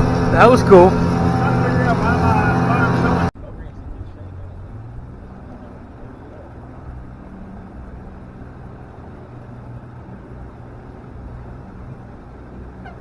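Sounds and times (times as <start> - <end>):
boat motor humming: 0.0 - 13.0
rushing water and air: 0.0 - 13.0.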